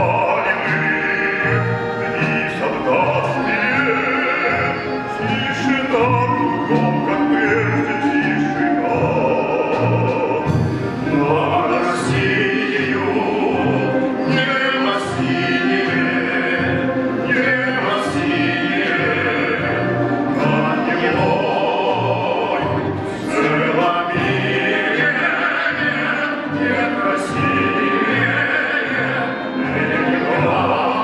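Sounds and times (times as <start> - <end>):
plucked folk string orchestra: 0.0 - 31.0.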